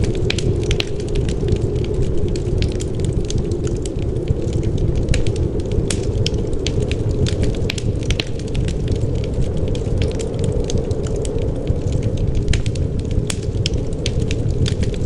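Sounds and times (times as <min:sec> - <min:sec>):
low rush of wind: 0:00.0 - 0:15.0
wood fire crackling and popping: 0:00.0 - 0:15.0.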